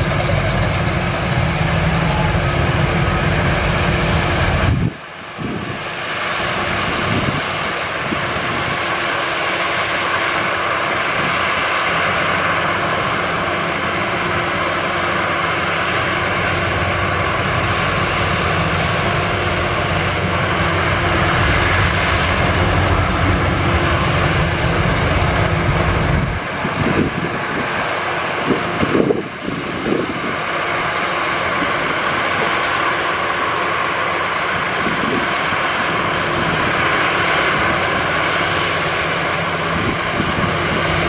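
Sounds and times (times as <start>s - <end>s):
combine harvester engine drone: 0.0s - 41.0s
harvester machinery working: 0.0s - 41.0s.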